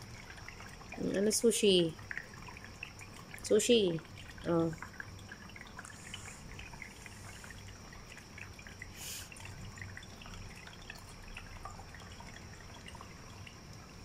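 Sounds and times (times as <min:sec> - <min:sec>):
water fountain trickling: 0:00.0 - 0:14.0.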